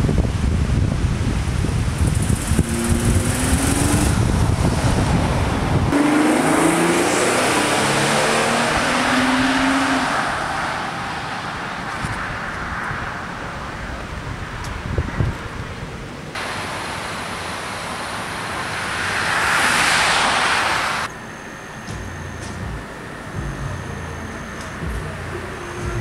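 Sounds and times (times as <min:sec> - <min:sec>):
wind rumbling on microphone: 0:00.0 - 0:21.1
car driving off: 0:01.5 - 0:15.3, 0:16.3 - 0:26.0.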